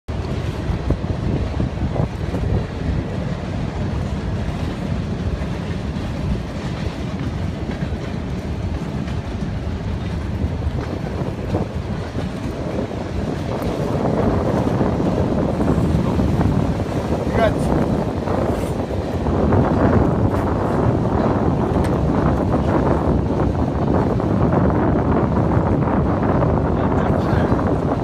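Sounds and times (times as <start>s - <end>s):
wind buffeting microphone: 0.1s - 28.0s.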